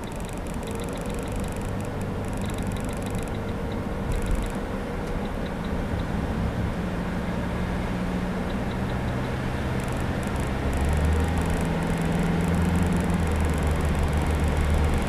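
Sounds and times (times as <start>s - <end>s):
faint high-pitched ticking: 0.0s - 6.2s, 8.4s - 15.0s
rumbling vehicle noise: 0.0s - 15.0s.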